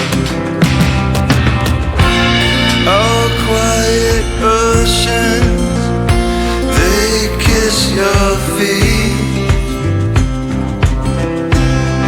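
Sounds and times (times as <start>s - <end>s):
band with drum beat: 0.0s - 12.0s
person singing: 2.0s - 12.0s.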